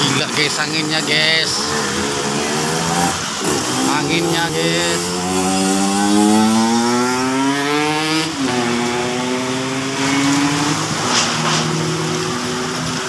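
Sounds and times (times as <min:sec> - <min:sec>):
motorcycle engine accelerating: 0:01.6 - 0:13.0.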